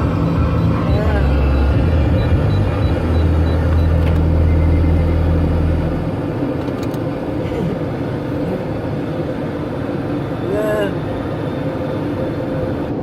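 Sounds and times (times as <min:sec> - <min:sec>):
car wash machinery hum: 0:00.0 - 0:13.0.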